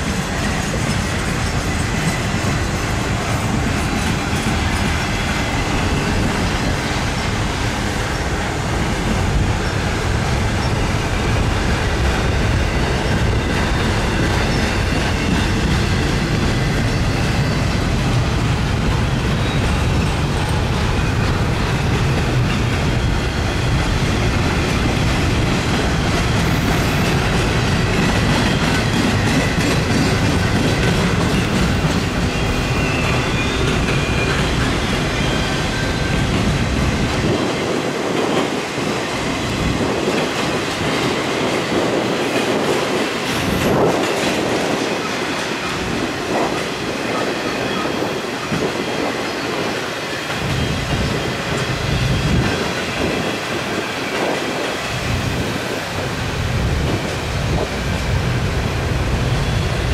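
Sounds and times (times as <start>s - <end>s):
freight train rumbling past: 0.0s - 59.9s
train wheels clattering on rails: 0.0s - 59.9s.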